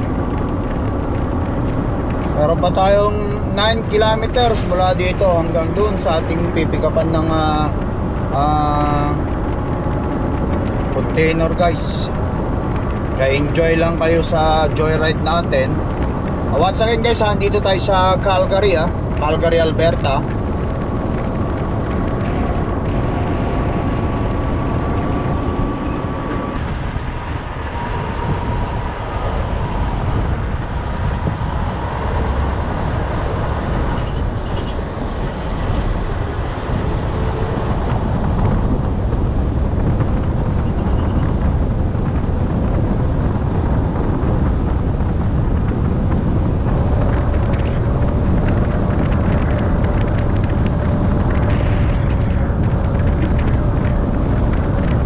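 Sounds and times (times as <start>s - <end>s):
faint whine: 0.0s - 55.0s
truck engine drone: 0.0s - 55.0s
tyre and wind noise: 0.0s - 55.0s.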